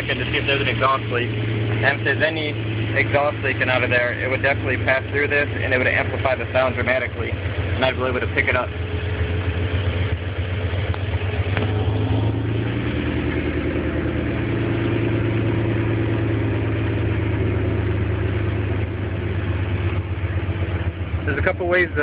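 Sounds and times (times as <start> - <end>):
sports car engine idling: 0.0 - 22.0.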